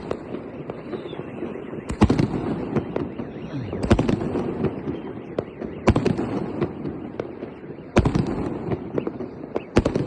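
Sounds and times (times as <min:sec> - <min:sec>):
firework crackling and popping: 0:00.0 - 0:10.0.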